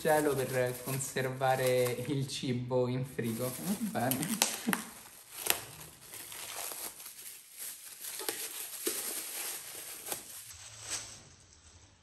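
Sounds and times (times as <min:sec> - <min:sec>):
plastic bag crinkling: 0:00.0 - 0:02.2, 0:03.2 - 0:11.0.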